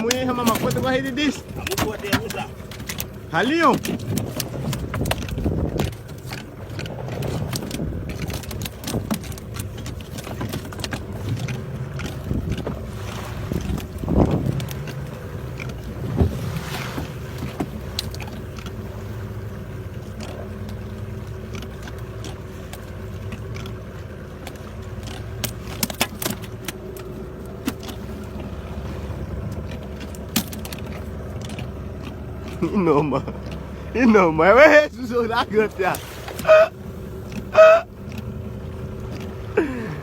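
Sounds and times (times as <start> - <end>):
boat motor humming: 0.0 - 40.0
knocks and clicks from boat: 0.0 - 40.0.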